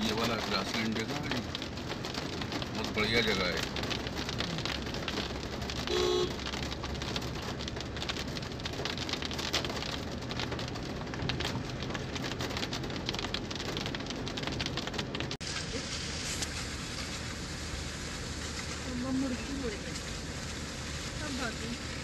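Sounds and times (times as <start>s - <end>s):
car road rumble: 0.0s - 22.0s
tyres crackling over leaves: 0.0s - 22.0s.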